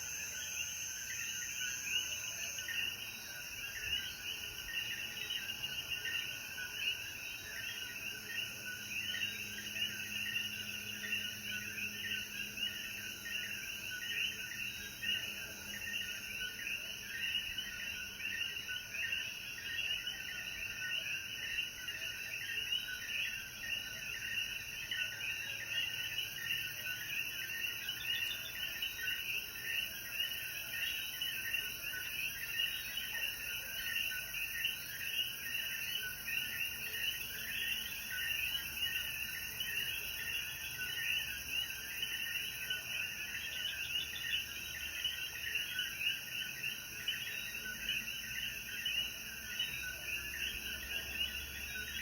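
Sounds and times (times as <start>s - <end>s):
chorus of frogs calling: 0.0s - 52.0s.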